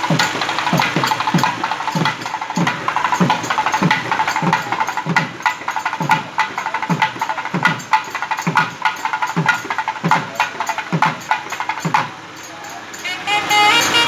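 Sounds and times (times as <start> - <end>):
procession drums beating: 0.0 - 12.3.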